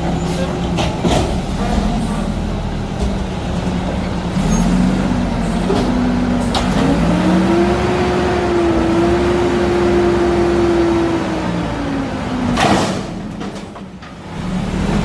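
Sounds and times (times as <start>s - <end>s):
garbage truck engine revving: 0.0s - 15.0s.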